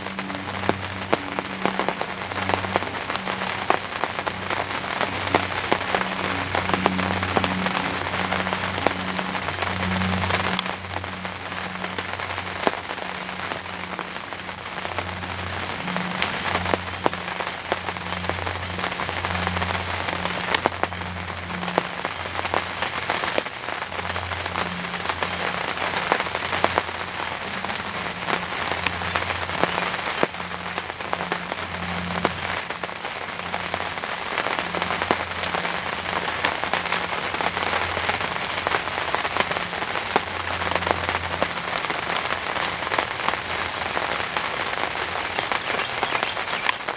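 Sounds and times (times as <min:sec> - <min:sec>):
heavy rain pouring: 0:00.0 - 0:46.9
raindrops ticking close by: 0:00.0 - 0:46.9.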